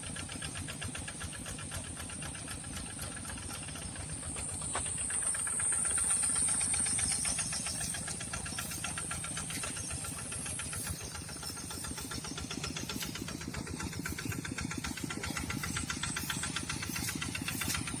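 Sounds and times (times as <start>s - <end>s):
diesel engine knocking: 0.0s - 18.0s.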